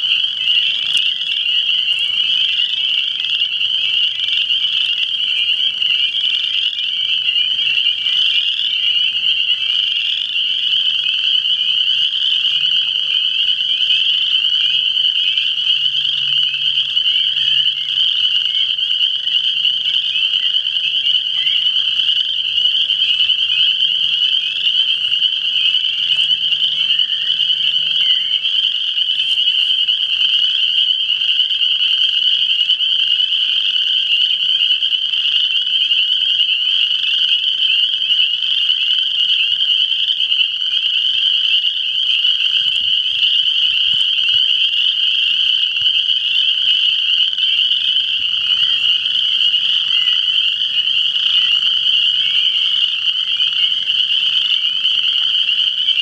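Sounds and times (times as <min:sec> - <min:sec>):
chorus of frogs calling: 0:00.0 - 0:56.0.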